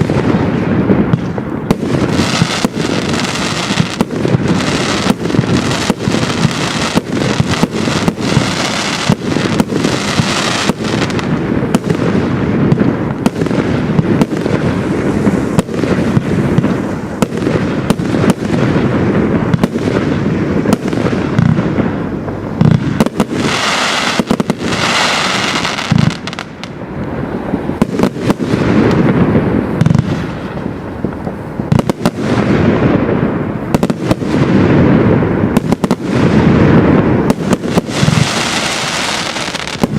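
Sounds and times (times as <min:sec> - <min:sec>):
firework cake firing: 0:00.0 - 0:39.9.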